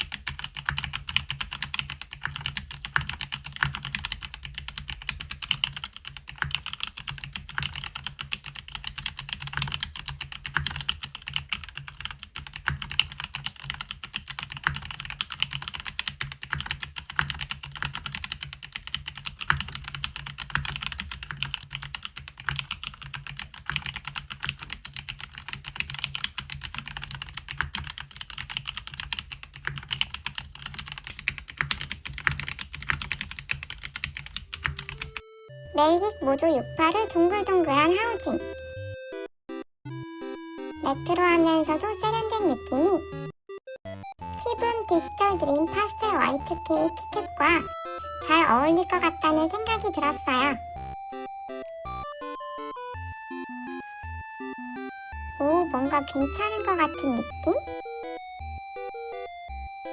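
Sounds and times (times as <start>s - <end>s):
keyboard typing: 0.0s - 39.3s, 40.6s - 59.9s.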